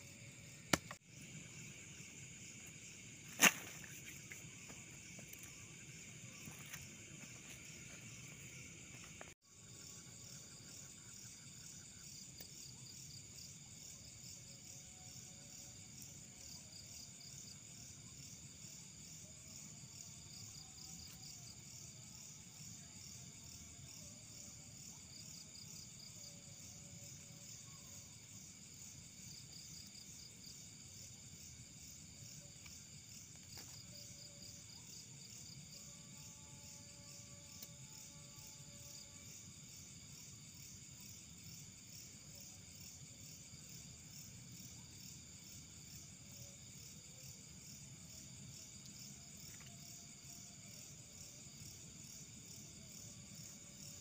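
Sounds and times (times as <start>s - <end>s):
night insects chirping: 0.0s - 54.0s.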